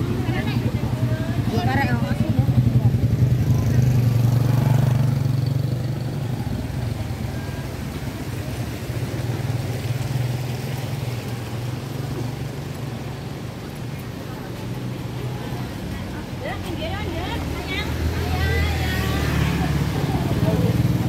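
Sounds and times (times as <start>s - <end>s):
vehicle engine drone: 0.0s - 21.0s.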